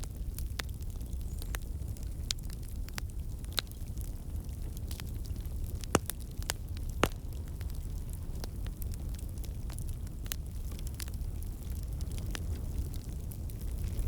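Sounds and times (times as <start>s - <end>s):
fire crackles and pops: 0.0s - 14.0s
fire flames rumbling: 0.0s - 14.0s.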